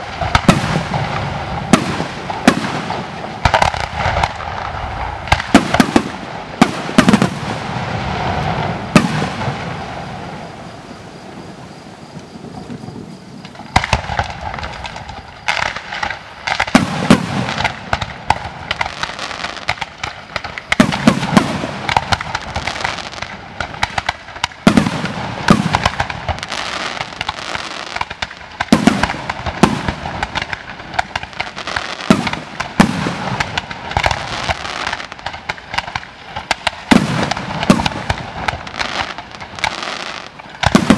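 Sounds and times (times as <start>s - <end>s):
fireworks bangs: 0.0s - 40.9s.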